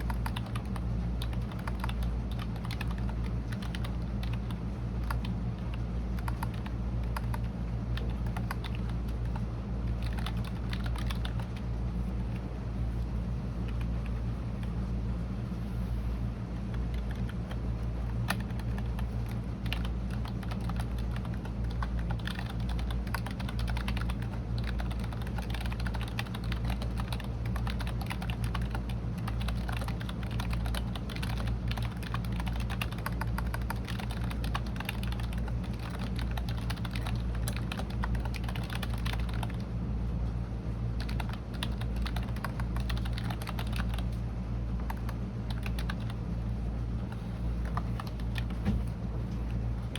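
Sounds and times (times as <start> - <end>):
computer keyboard typing: 0.0 - 12.5, 16.7 - 39.7, 41.0 - 44.2, 44.8 - 46.3, 47.1 - 48.6
steady low hum: 0.0 - 49.9.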